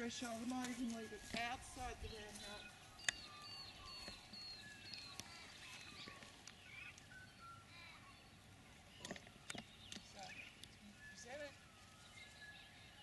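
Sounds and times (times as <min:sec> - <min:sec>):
faint bird chirps and whistles: 0:00.8 - 0:13.0.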